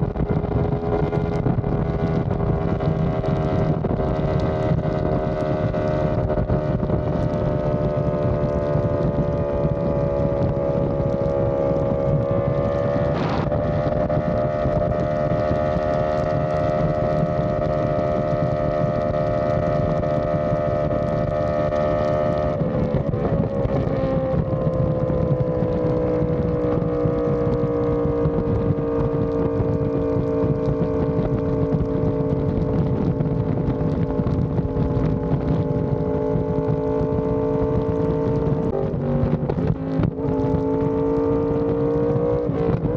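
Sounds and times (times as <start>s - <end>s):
motorcycle engine cruising: 0.0s - 42.9s
wind noise on microphone: 0.0s - 42.9s.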